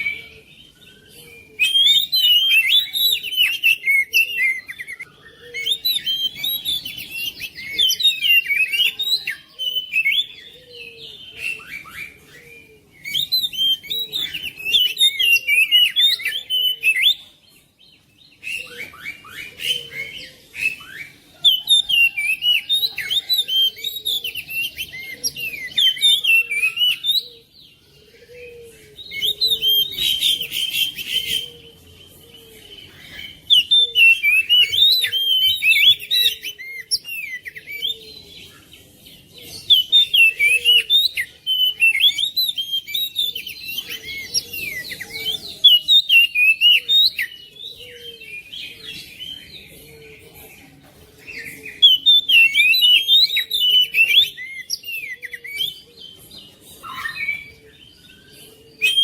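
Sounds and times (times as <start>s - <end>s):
bird singing whistled song: 0.0s - 50.1s, 51.3s - 59.0s.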